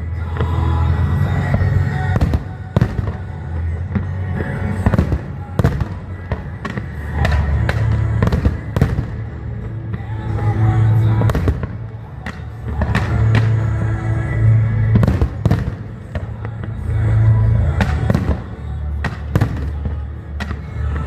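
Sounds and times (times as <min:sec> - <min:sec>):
fireworks bangs and cracks: 0:00.0 - 0:21.0
low rumble: 0:00.0 - 0:21.0
music playing: 0:00.0 - 0:21.0.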